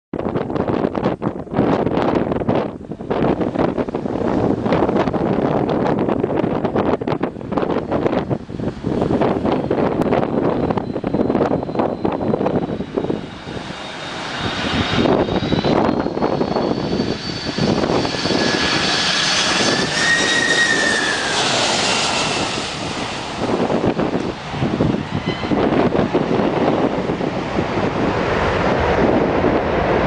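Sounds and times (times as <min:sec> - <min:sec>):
wind gusts on microphone: 0:00.1 - 0:30.0
jet plane passing overhead: 0:00.2 - 0:30.0.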